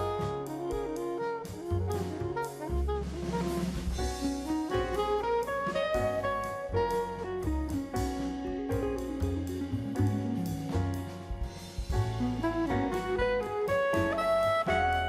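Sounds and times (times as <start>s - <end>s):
jazz music with saxophone: 0.0s - 15.0s.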